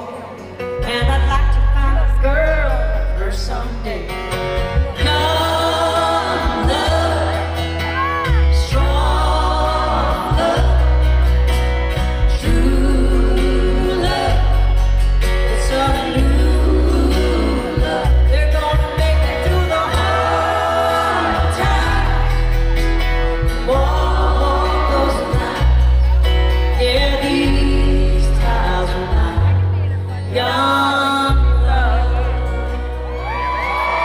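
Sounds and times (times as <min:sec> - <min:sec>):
woman singing: 0:00.0 - 0:04.2, 0:04.9 - 0:22.6, 0:23.3 - 0:34.0
acoustic guitars: 0:00.0 - 0:34.0
upright bass: 0:00.0 - 0:34.0.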